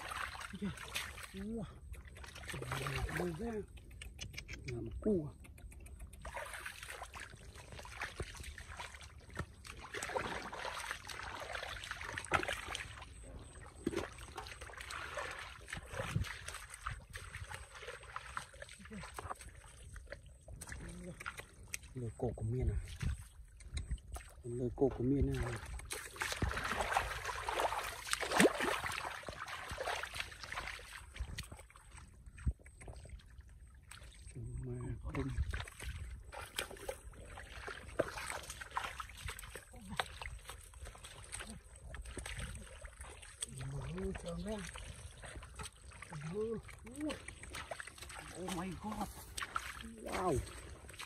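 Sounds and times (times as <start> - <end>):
boots splashing in muddy water: 0.0 - 3.7, 6.1 - 51.0.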